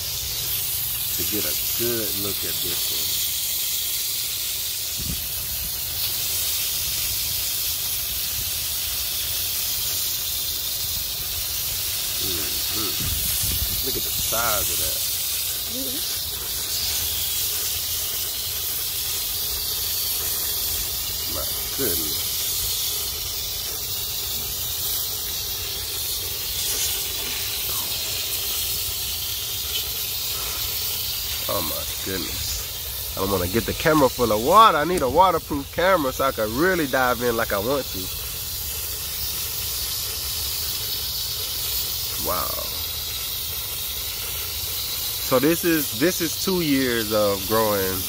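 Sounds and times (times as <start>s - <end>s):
water spraying from hose nozzle: 0.0s - 48.0s.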